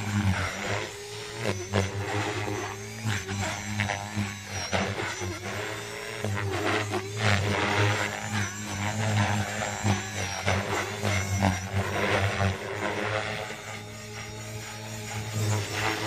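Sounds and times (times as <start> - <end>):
rc helicopter rotor and motor: 0.0 - 16.0.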